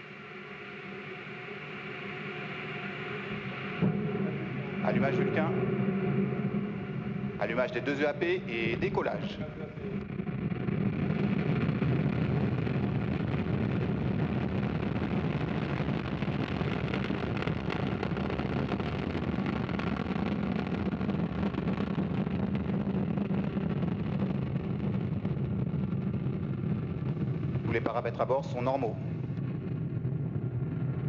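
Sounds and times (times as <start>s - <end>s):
rocket engine roaring: 0.0s - 31.0s.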